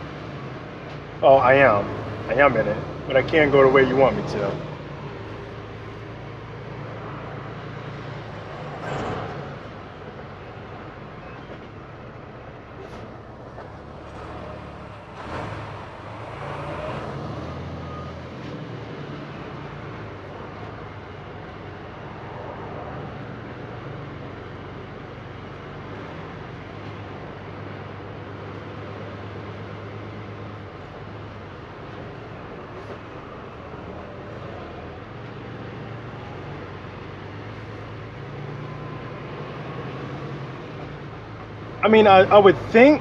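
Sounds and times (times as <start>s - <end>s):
diesel truck engine running: 0.0s - 43.0s
road noise: 0.0s - 43.0s.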